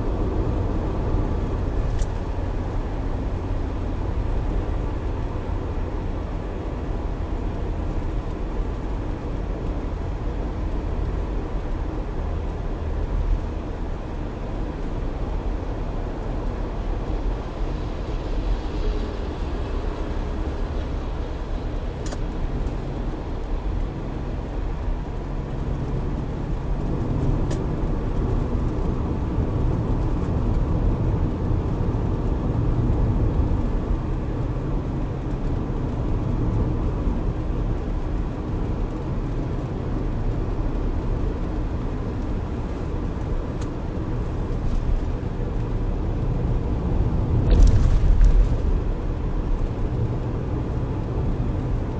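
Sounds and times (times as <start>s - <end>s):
vehicle engine and road rumble: 0.0s - 51.9s.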